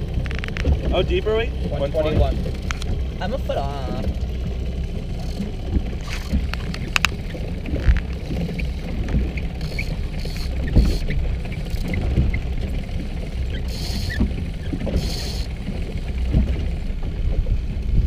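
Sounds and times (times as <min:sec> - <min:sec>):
outboard motor rumbling: 0:00.0 - 0:18.0
water against hull: 0:00.0 - 0:18.0.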